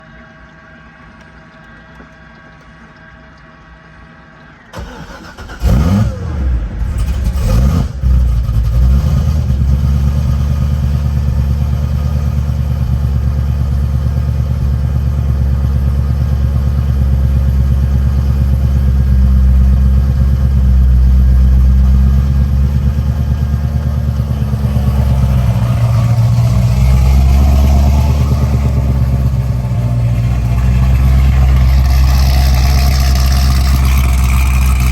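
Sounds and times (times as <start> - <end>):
faint hum: 0.0 - 7.4, 10.7 - 34.9
car engine idling: 4.5 - 34.9
car engine cranking and starting: 4.7 - 34.9.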